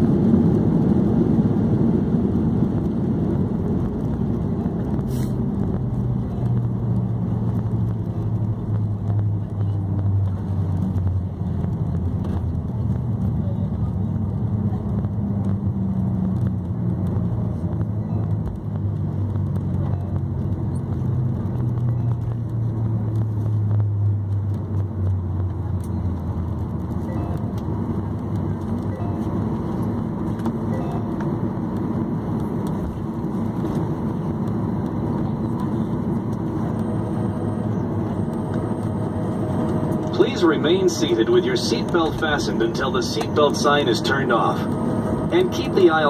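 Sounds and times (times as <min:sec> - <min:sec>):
jet engines drone: 0:00.0 - 0:46.0
low rumble of rollout: 0:00.0 - 0:46.0.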